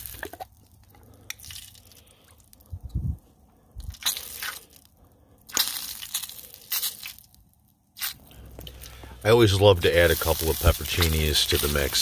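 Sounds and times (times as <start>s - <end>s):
wet squishing rustling: 0.0s - 12.0s.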